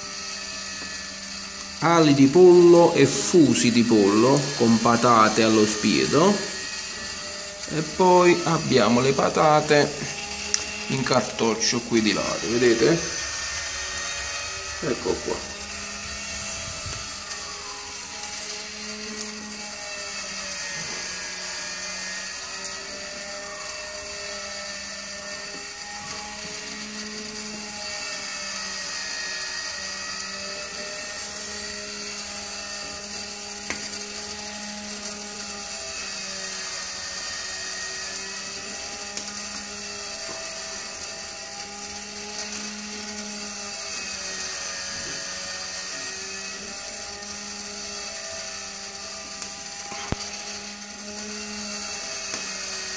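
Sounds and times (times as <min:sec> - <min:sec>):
electric motor humming: 0:00.0 - 0:52.9.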